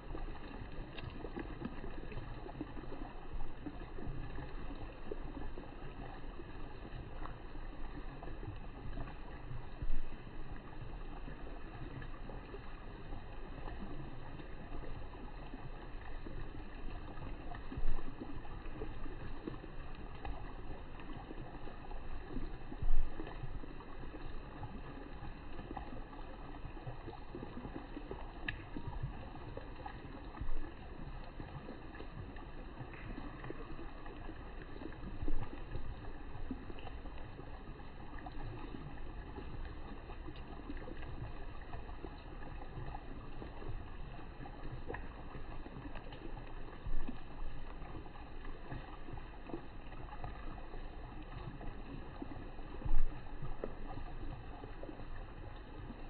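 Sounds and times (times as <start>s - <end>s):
low rumble and hiss: 0.0s - 56.0s.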